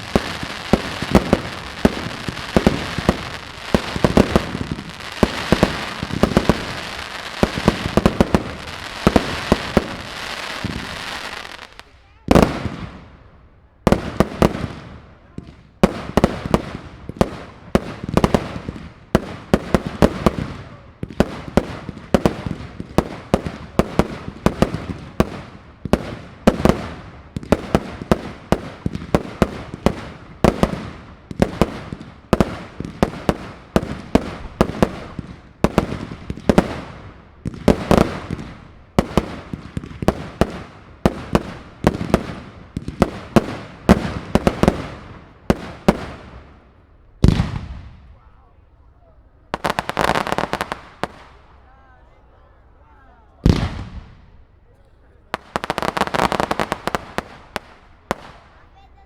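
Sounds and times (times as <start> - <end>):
fireworks bursts crackling: 0.0 - 13.2, 13.8 - 48.0, 49.4 - 59.0.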